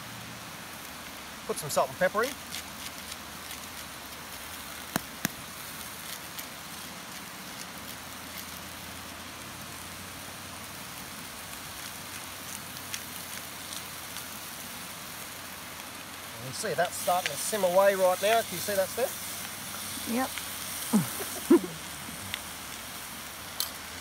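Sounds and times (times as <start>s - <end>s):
food frying in oil: 0.0s - 24.0s.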